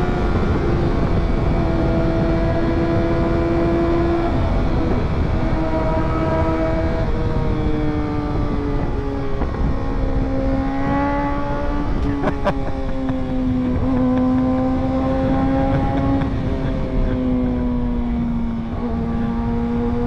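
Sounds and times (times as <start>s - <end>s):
wind noise: 0.0s - 20.0s.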